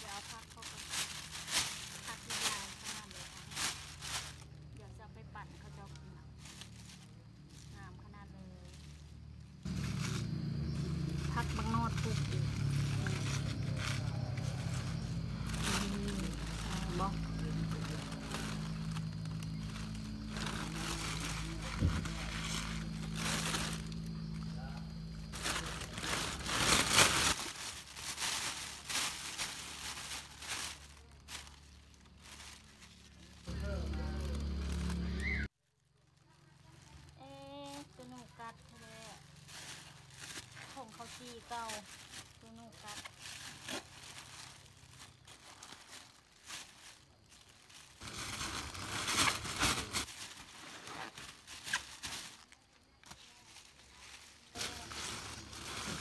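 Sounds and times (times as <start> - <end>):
plastic bag crinkling: 0.0 - 56.0.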